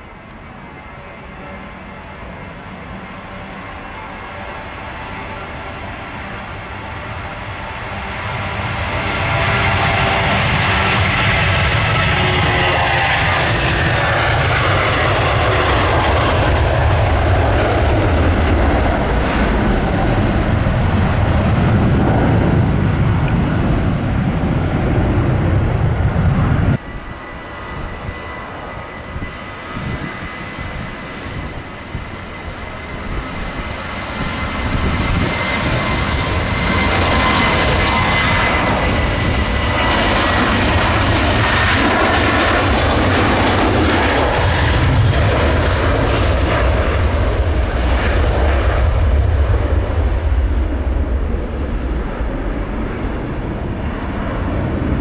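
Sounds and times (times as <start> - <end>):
jet engine deep rumble: 0.0 - 55.0
jet engine whine: 0.0 - 55.0.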